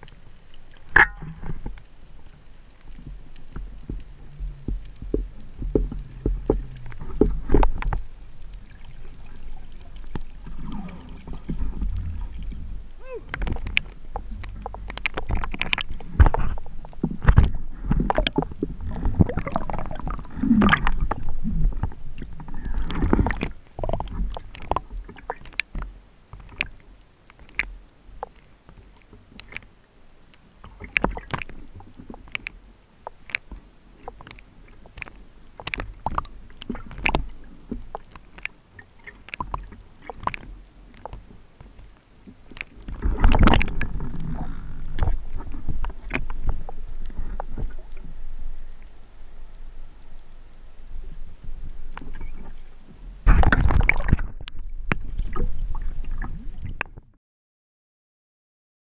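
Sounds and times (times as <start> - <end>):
underwater water sloshing: 0.0 - 57.1
sharp clicks underwater: 0.0 - 57.2.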